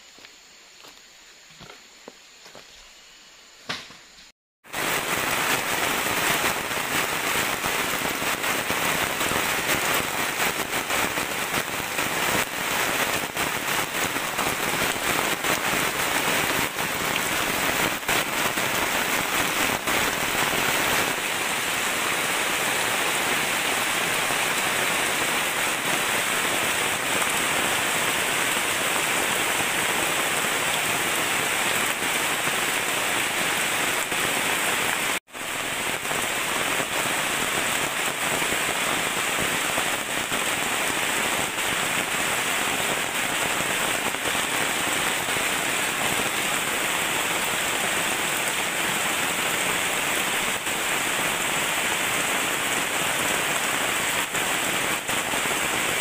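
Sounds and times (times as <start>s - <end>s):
heavy rain pouring: 4.6s - 56.0s.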